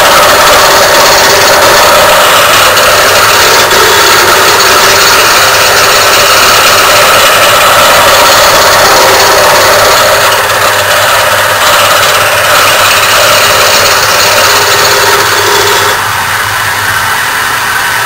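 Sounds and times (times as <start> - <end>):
turning tool scraping wood: 0.0 - 16.0
wood lathe whirring: 0.0 - 18.0.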